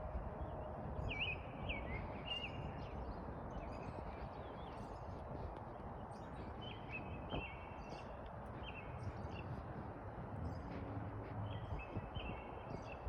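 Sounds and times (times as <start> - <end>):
distant traffic rumble: 0.0 - 13.0
low engine hum: 0.0 - 13.0
songbird singing: 0.0 - 13.0.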